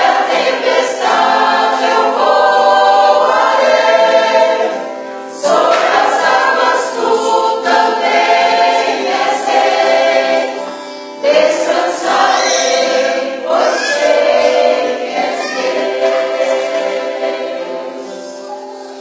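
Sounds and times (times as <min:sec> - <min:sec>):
acoustic guitar: 0:00.0 - 0:19.0
choir singing in harmony: 0:00.0 - 0:19.0.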